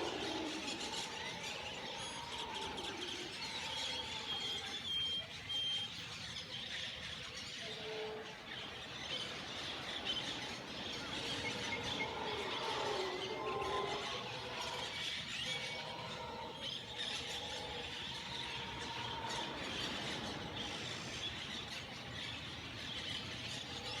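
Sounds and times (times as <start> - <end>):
many birds calling: 0.0 - 24.0
natural background noise: 0.0 - 24.0.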